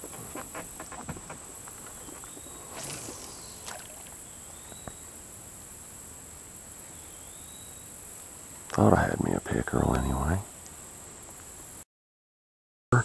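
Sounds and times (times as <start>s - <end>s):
high-pitched insect chorus: 0.0s - 11.8s.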